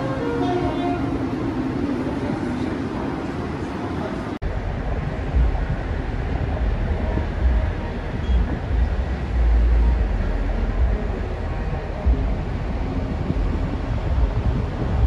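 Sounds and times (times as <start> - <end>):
open-air hiss: 0.0 - 15.0
wind buffeting microphone: 0.0 - 15.0.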